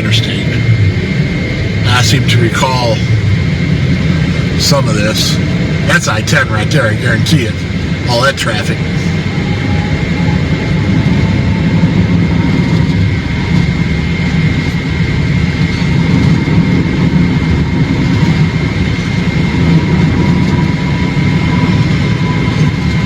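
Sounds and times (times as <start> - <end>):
vehicle road and engine noise: 0.0 - 23.0.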